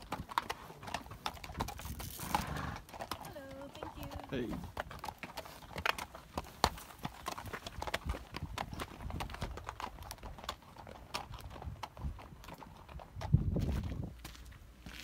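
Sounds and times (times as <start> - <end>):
hooves clip-clopping on rocky trail: 0.0 - 15.0.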